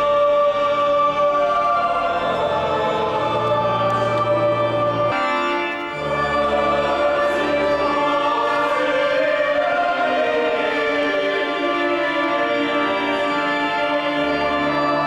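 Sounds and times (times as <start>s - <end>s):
choir singing: 0.0s - 15.0s
organ: 0.0s - 15.0s.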